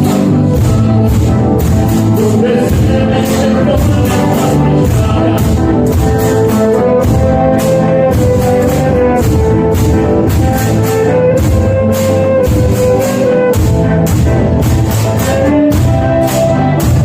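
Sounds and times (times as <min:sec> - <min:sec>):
barrels and tubs beaten rhythmically: 0:00.0 - 0:17.0
held stepping melody: 0:00.0 - 0:17.0.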